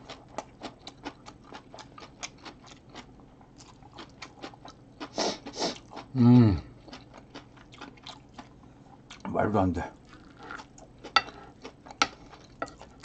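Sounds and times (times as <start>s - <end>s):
man chewing food: 0.0s - 9.3s, 10.0s - 13.0s.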